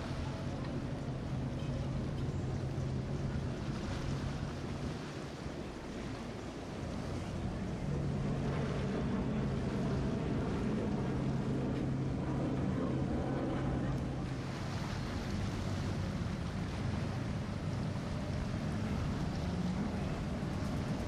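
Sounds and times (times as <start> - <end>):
boat engine hum: 0.0 - 21.0
bow wave splashing: 0.0 - 21.0
wind on microphone: 0.0 - 21.0.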